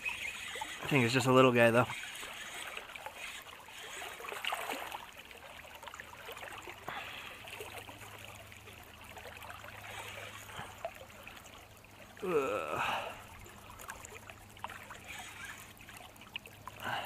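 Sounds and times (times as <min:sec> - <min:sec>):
river rippling and gurgling: 0:00.0 - 0:17.0.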